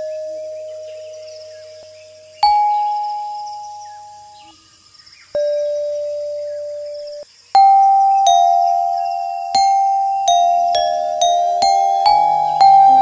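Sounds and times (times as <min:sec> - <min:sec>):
chime notes: 0:00.0 - 0:04.5, 0:05.4 - 0:13.0.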